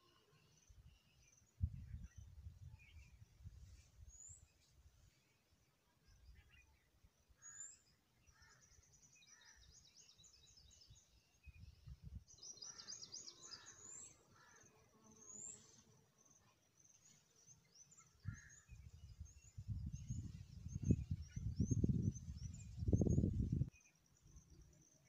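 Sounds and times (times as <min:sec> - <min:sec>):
small birds trilling and chirping: 0:00.0 - 0:25.0.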